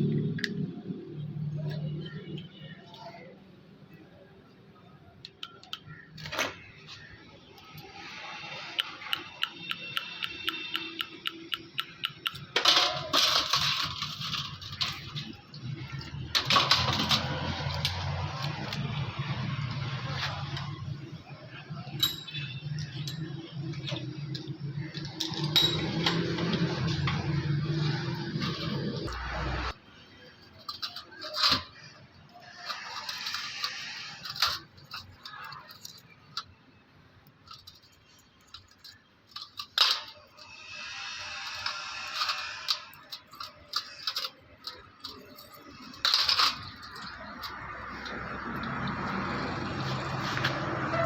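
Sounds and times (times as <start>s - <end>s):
small metal parts clinking: 5.2s - 21.2s, 21.9s - 29.3s, 30.2s - 50.6s
noisy scrape or rattle: 6.2s - 36.6s, 37.4s - 51.0s.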